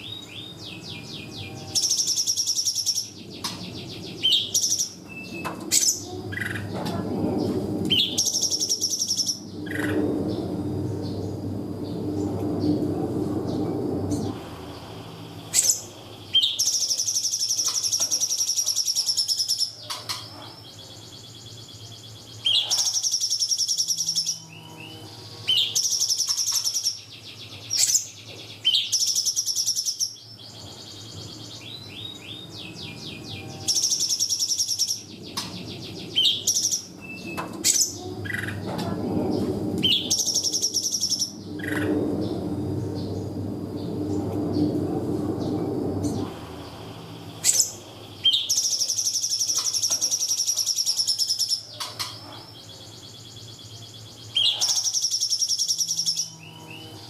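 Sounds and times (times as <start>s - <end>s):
songbird high-pitched trilling: 0.0s - 10.0s, 15.2s - 39.0s, 39.8s - 42.0s, 46.1s - 57.0s.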